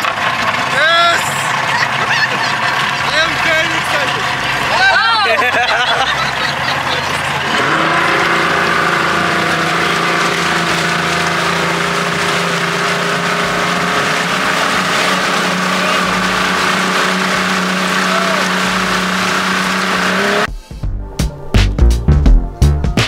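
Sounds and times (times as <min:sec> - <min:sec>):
water rushing in wake: 0:00.0 - 0:20.5
motorboat engine running: 0:00.0 - 0:21.5.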